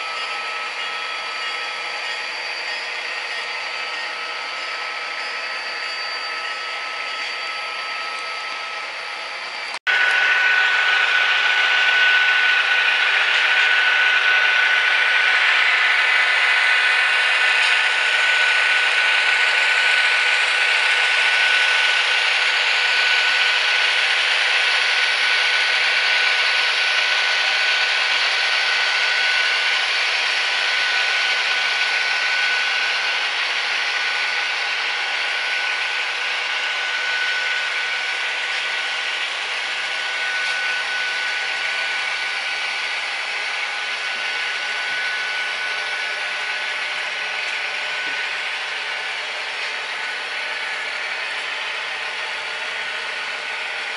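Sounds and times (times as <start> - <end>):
model train motor whirring: 9.9 - 53.9.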